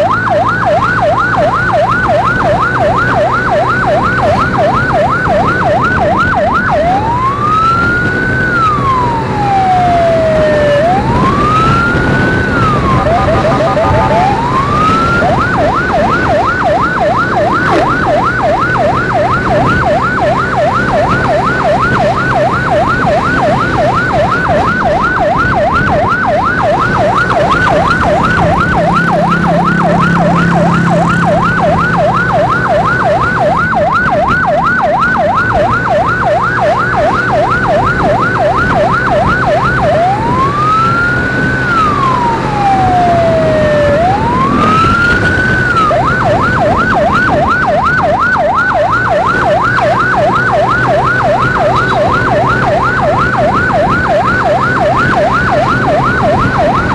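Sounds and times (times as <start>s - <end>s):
electronic siren yelping and wailing: 0.0s - 56.9s
motorcycle engine hum: 0.0s - 56.9s.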